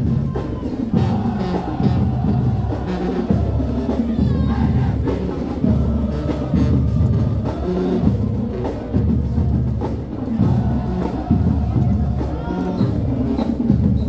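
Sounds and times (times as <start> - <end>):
bass drum beating: 0.0 - 14.0
marching band playing: 0.0 - 14.0.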